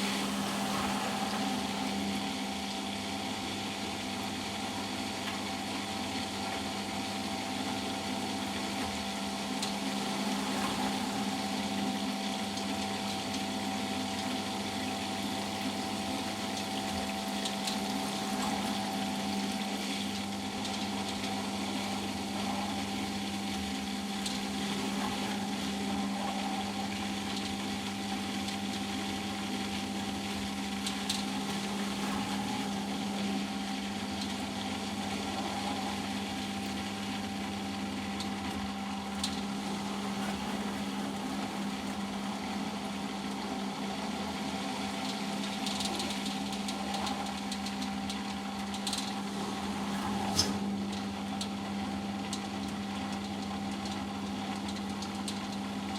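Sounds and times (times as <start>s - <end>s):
washing machine spinning: 0.0s - 55.9s.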